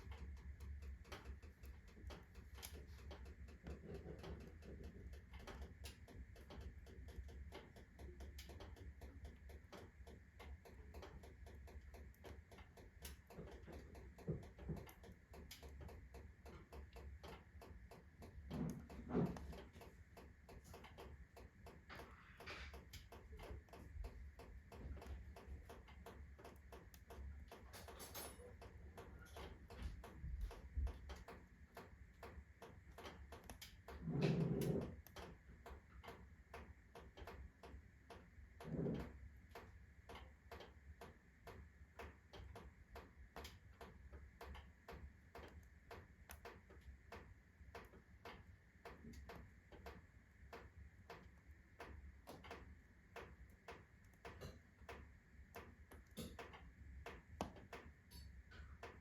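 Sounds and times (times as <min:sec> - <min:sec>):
firewood crackling in stove: 0:00.0 - 0:59.0.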